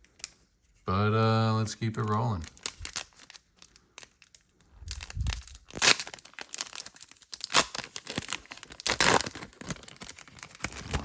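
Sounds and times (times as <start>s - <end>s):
foil wrapper crinkling: 1.0s - 11.0s
foil wrapper ripping: 1.9s - 11.0s.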